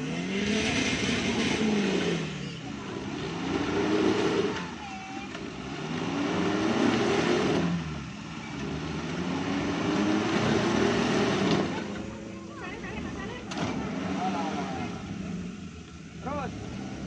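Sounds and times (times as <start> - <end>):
engine revving hard under load: 0.0 - 12.1, 13.0 - 15.6.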